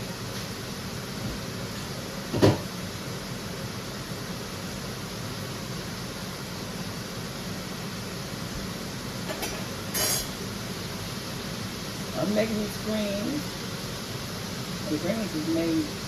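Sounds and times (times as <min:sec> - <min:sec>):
kitchen noise hiss: 0:00.0 - 0:16.0.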